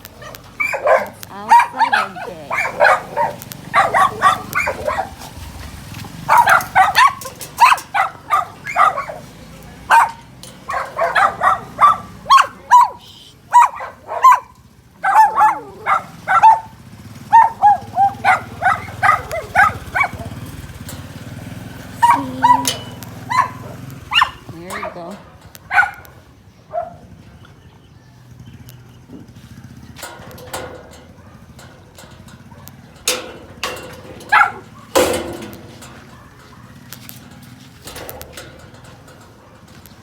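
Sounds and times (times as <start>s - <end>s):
dog barking and yipping: 0.0s - 27.1s, 29.7s - 40.0s.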